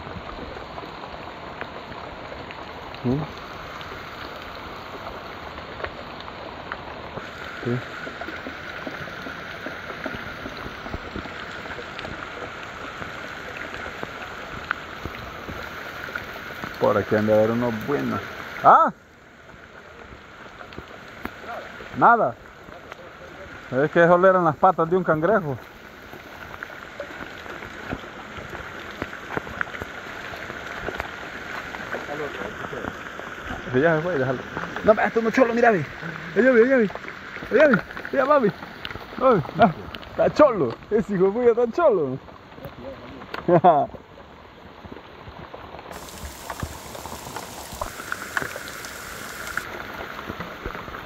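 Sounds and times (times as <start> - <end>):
rain falling: 0.0 - 51.0
raindrops striking close by: 0.0 - 51.0.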